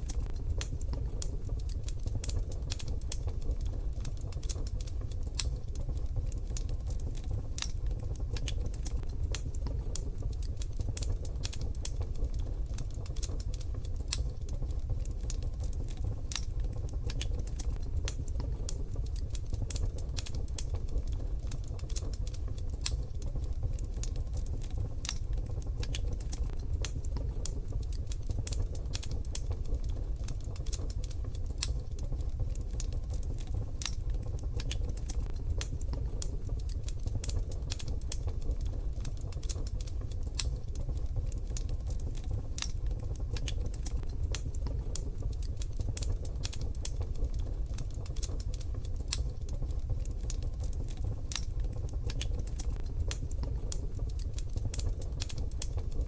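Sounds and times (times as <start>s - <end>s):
steady low rumble: 0.0s - 56.0s
wood fire crackling in stove: 0.0s - 56.0s.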